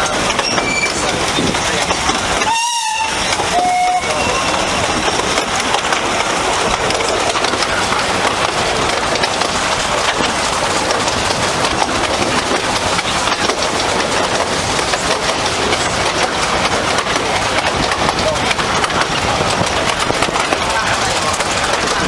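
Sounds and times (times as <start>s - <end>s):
wheels rumbling on rail: 0.0s - 22.0s.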